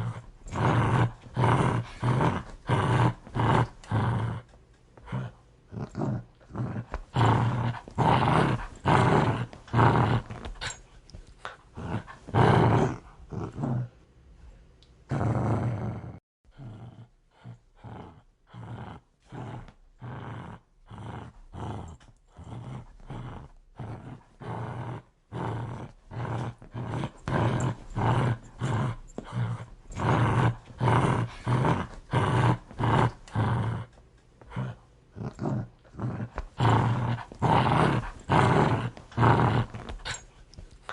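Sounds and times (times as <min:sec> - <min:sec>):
dog growling: 0:00.0 - 0:10.8, 0:11.4 - 0:14.0, 0:15.1 - 0:40.9.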